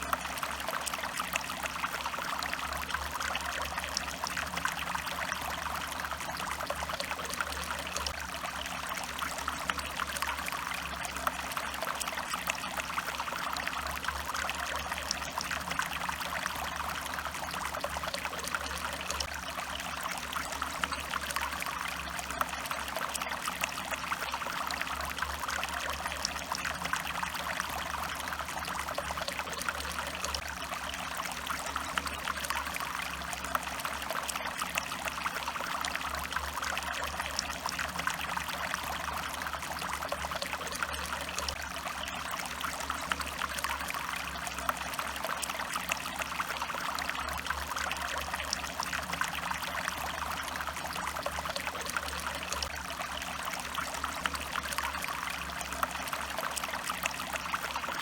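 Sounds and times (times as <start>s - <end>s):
stream trickling and splashing: 0.0s - 58.0s.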